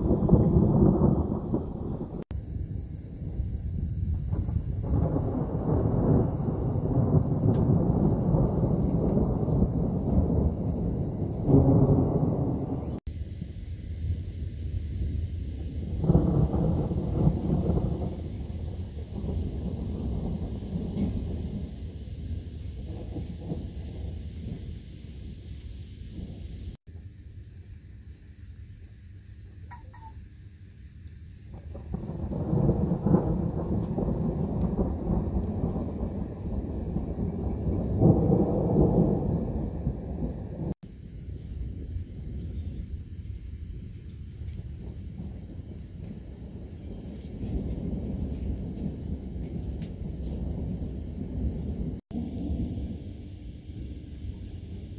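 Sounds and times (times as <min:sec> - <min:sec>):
thunder rumbling: 0:00.0 - 0:26.8, 0:31.5 - 0:54.9
insects chirring: 0:00.0 - 0:54.9.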